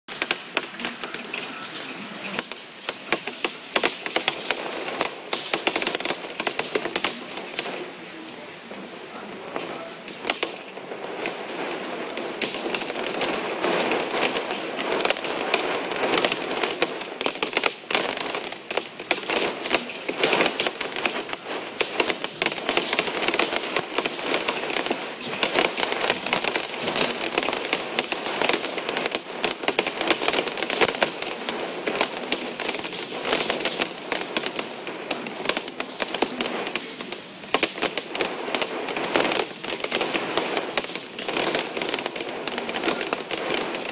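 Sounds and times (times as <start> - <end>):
hailstones pelting down: 0.1 - 43.9.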